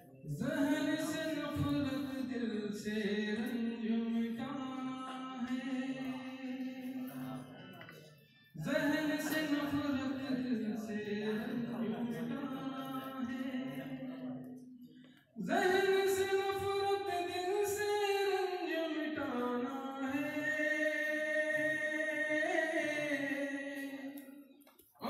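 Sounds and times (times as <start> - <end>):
man singing unaccompanied: 0.3 - 7.2, 8.6 - 14.0, 15.4 - 24.4.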